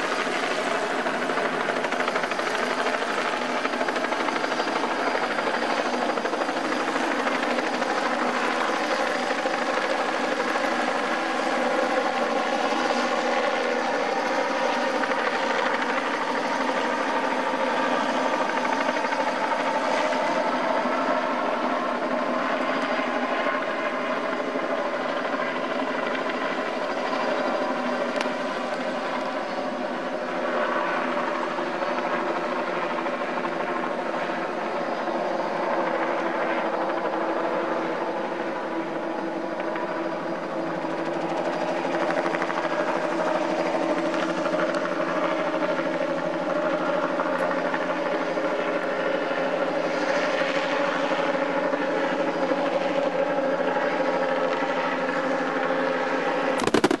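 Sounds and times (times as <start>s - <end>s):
helicopter flying overhead: 0.0s - 57.0s.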